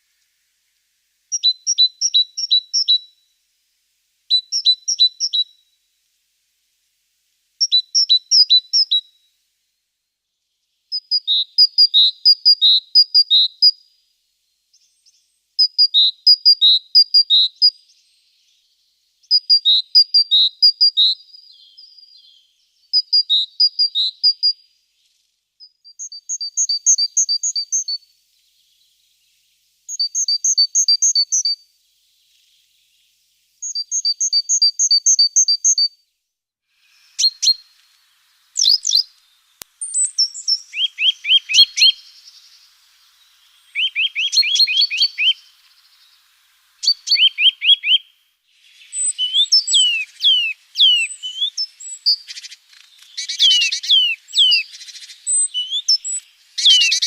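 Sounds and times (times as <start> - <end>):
songbird singing: 0.0 - 3.4, 4.3 - 6.6, 7.2 - 9.5, 10.1 - 36.2, 36.8 - 57.0.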